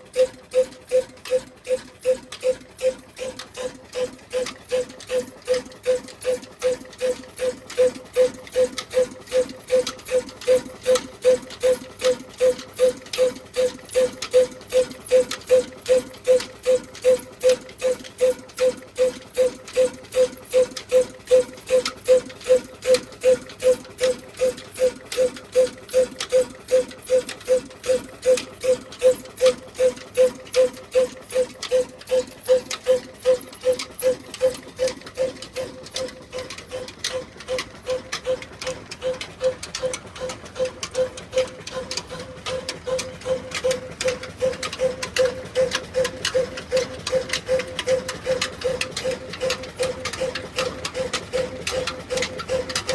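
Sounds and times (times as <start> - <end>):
single-cylinder diesel engine beating: 0.0 - 52.9.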